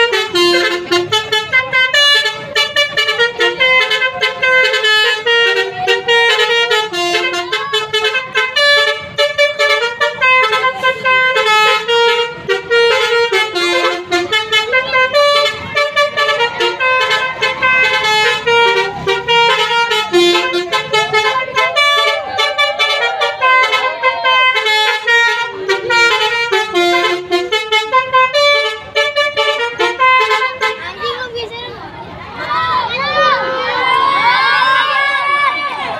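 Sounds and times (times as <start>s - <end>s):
bus musical horn playing tune: 0.0s - 31.0s.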